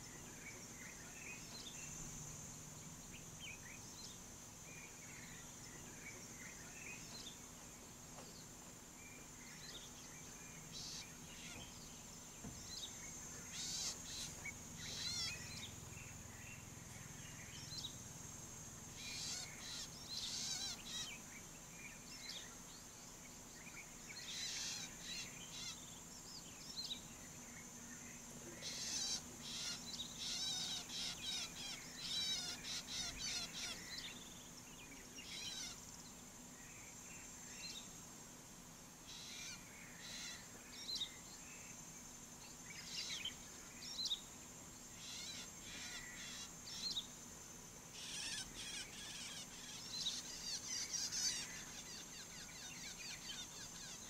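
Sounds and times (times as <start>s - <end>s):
birds chirping and trilling: 0.0s - 38.0s, 39.0s - 54.0s
high-pitched insect drone: 9.0s - 54.0s.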